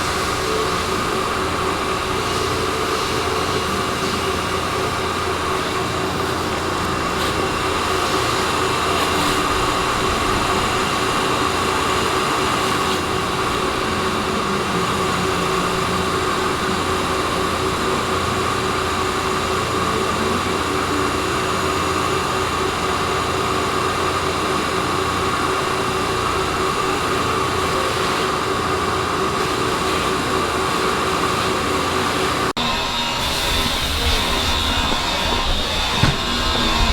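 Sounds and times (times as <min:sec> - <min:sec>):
shop machinery running: 0:00.0 - 0:36.9
steady machine whine: 0:00.0 - 0:36.9.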